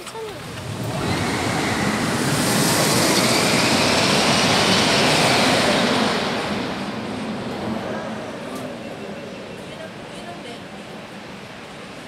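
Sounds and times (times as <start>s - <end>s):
roller coaster train rushing: 0.0s - 12.0s.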